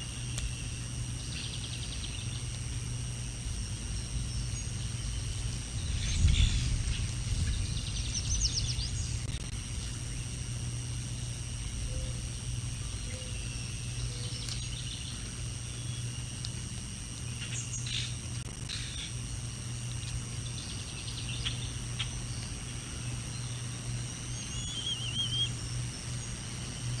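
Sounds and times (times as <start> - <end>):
small songbirds chirping: 0.0 - 19.2, 19.8 - 27.0
steady low microphone hum: 0.0 - 27.0.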